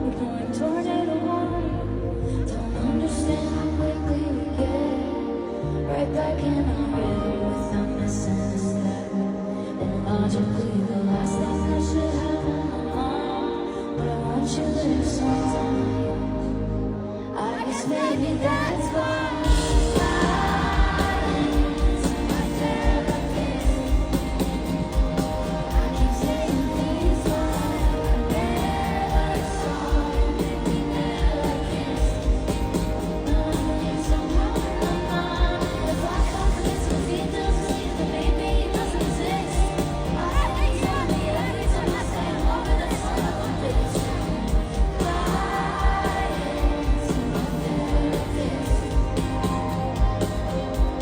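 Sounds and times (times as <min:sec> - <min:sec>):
live pop band: 0:00.0 - 0:51.0
person singing: 0:00.0 - 0:51.0.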